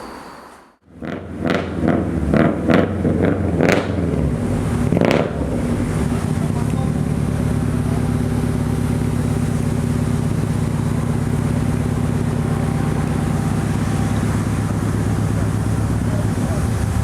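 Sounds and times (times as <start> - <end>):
car engine idling: 0.9 - 17.0.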